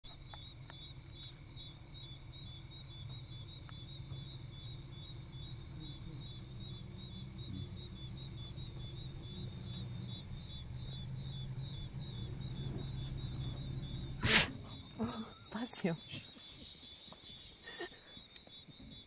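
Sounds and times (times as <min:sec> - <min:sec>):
insects chirping: 0:00.0 - 0:19.0
low steady hum: 0:00.1 - 0:18.2.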